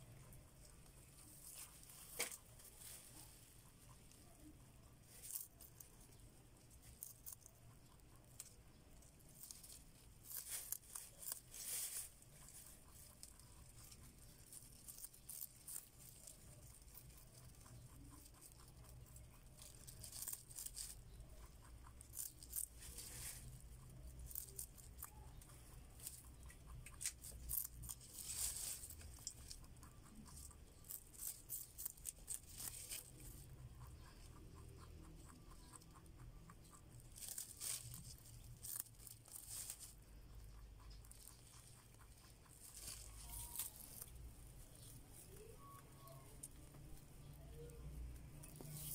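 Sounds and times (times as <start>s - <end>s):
rabbit chewing: 0.0s - 48.9s.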